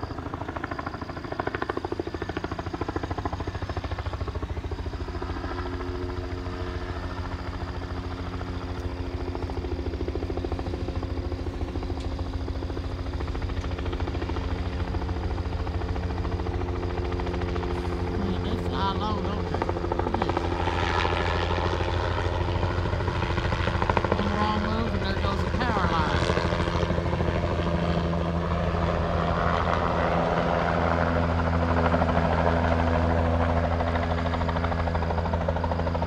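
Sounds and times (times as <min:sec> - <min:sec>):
helicopter engine drone: 0:00.0 - 0:36.0
helicopter rotor chop: 0:00.0 - 0:36.0.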